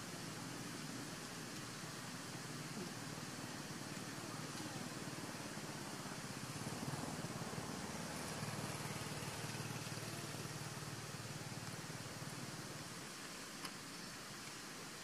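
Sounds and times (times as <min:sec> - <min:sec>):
low engine hum: 0:00.0 - 0:13.4
steady hiss: 0:00.0 - 0:15.0.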